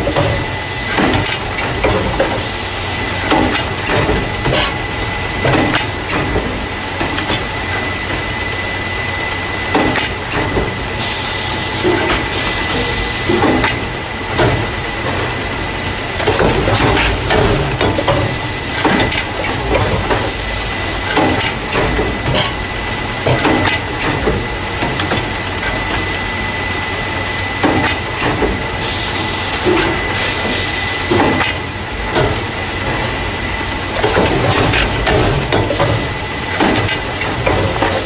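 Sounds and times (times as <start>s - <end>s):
machine hum and whine: 0.0s - 38.0s
machine knocks and clacks: 0.0s - 38.0s.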